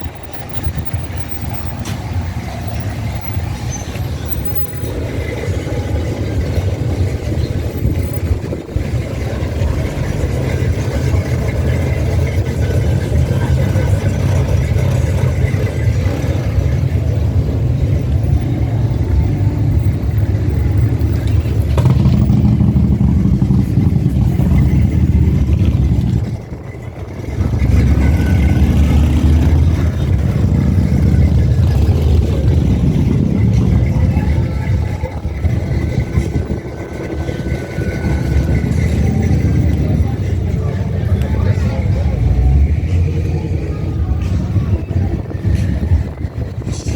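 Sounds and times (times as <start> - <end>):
car engine exhaust rumble: 0.0 - 46.9.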